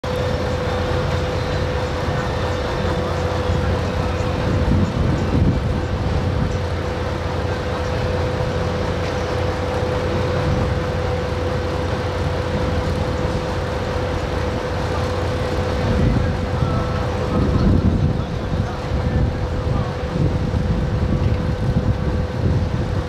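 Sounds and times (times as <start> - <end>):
low engine rumble: 0.0 - 23.0
mid-pitched machine whine: 0.0 - 23.0.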